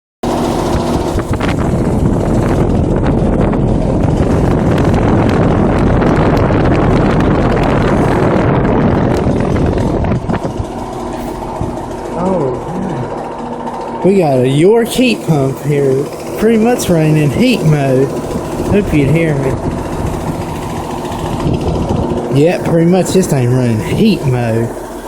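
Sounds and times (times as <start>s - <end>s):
compressor hum: 0.2s - 25.0s
fan air rushing: 0.2s - 25.0s.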